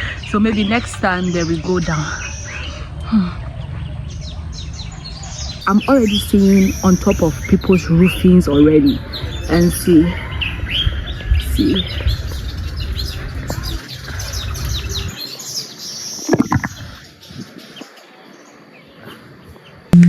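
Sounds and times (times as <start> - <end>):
wind rumbling on microphone: 0.0 - 15.2, 16.2 - 18.0
small birds chirping: 0.0 - 19.9.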